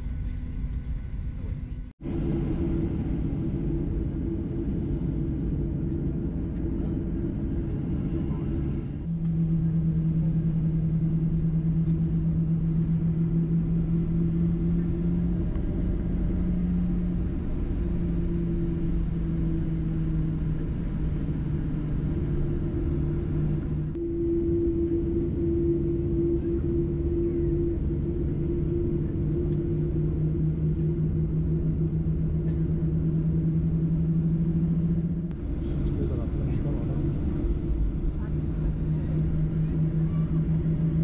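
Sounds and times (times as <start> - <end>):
airframe rumble rolling: 0.0 - 41.0
jet engines at taxi power: 0.0 - 41.0
steady low two-pitch hum: 0.0 - 41.0.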